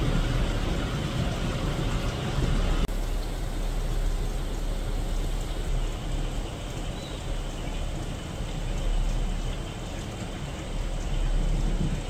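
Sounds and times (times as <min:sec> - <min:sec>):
rain: 0:00.0 - 0:12.0.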